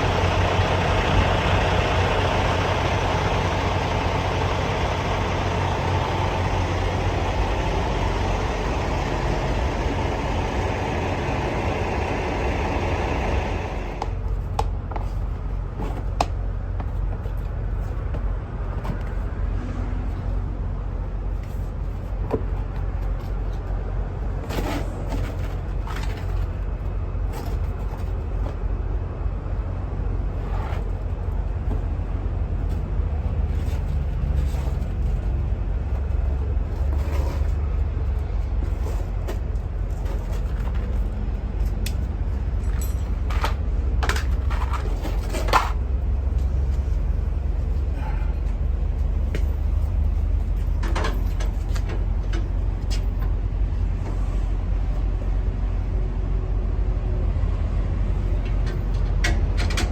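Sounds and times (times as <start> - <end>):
heavy truck rumbling: 0.0 - 59.9.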